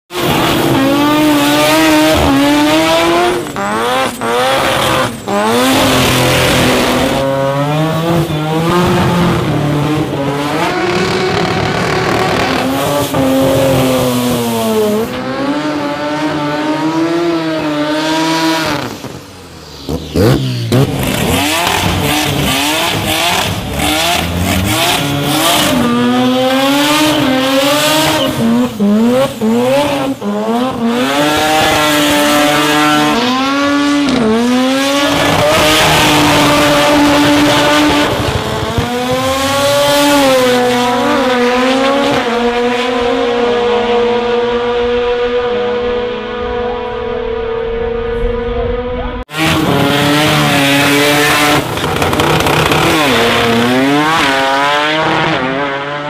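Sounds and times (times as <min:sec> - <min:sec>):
engines revving high: 0:00.1 - 0:56.0.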